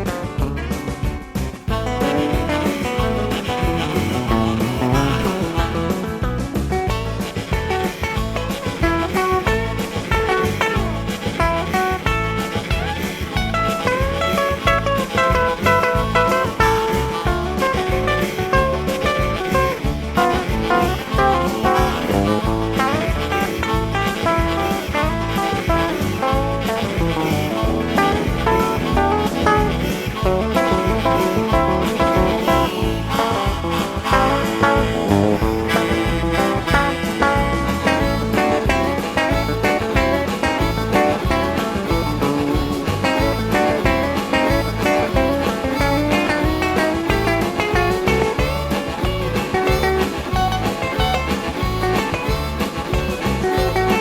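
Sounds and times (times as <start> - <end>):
blues harmonica: 0.0 - 54.0
guitar playing: 0.0 - 54.0
steady rhythmic beat: 0.0 - 54.0.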